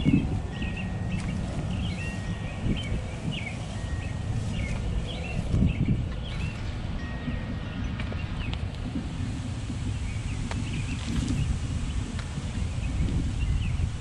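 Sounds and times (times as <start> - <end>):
small birds chirping: 0.0 - 8.8, 9.8 - 14.0
low outdoor rumble: 0.0 - 14.0.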